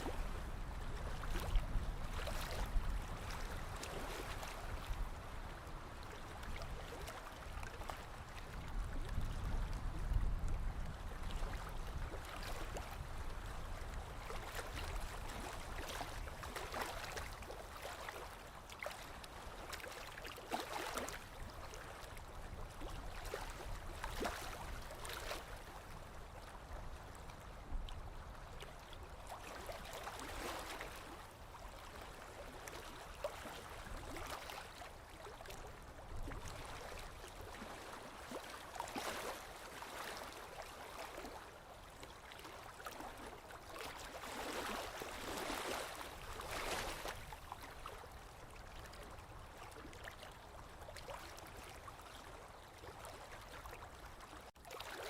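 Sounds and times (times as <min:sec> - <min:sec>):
small waves lapping: 0:00.0 - 0:55.0.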